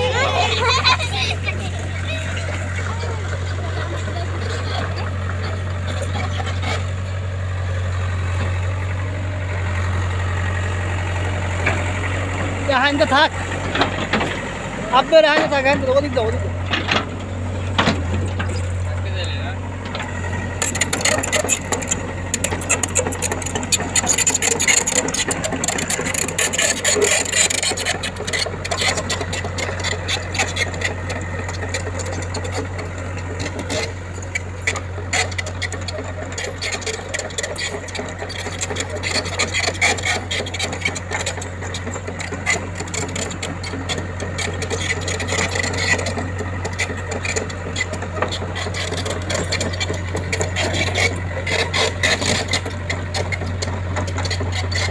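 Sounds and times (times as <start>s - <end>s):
machine engine hum: 0.0s - 54.9s
rattling and scraping: 0.0s - 54.9s.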